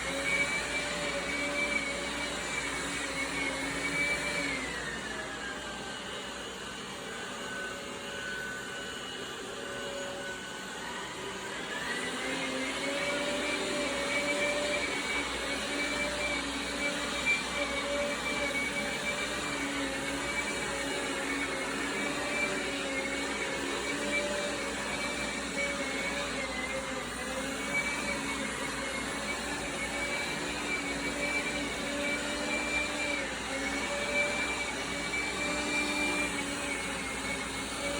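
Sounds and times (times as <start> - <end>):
robot vacuum running: 0.0 - 37.9.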